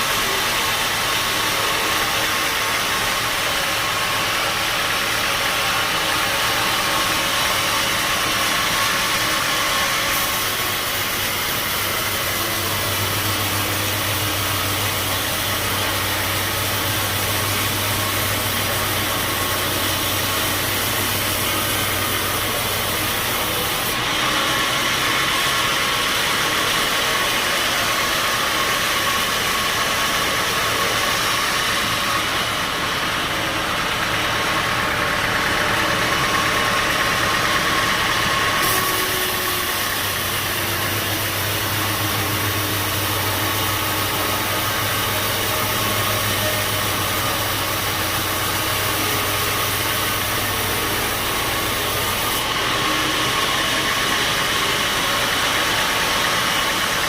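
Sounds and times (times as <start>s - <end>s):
bandsaw running: 0.0s - 57.0s.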